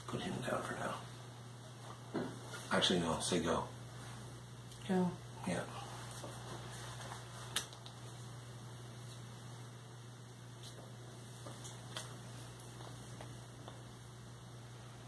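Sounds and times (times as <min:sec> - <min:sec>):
faint room noise: 0:00.0 - 0:15.0
low electrical hum: 0:00.0 - 0:15.0.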